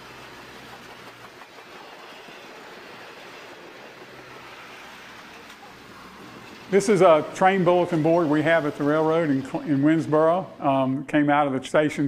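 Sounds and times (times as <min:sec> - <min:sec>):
train wheels on rails: 0:00.0 - 0:10.5.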